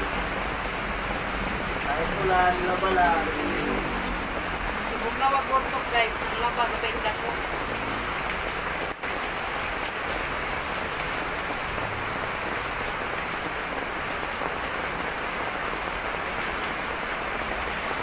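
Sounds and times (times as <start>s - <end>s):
heavy rain on wet pavement: 0.0s - 18.0s.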